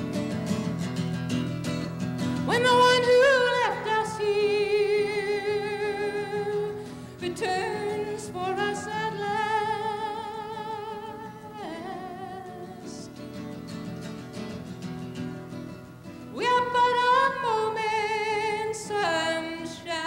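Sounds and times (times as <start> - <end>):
acoustic guitar: 0.0 - 20.0
woman singing folk melody: 1.4 - 14.0, 15.6 - 20.0.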